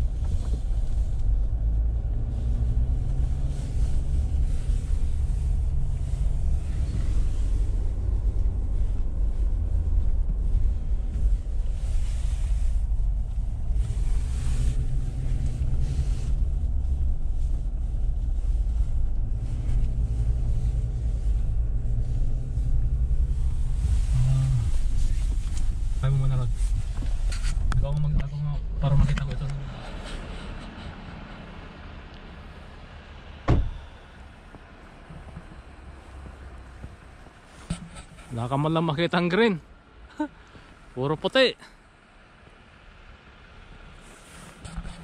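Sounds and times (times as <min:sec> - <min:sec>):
car engine rumble: 0:00.0 - 0:45.0
road noise: 0:00.0 - 0:45.0.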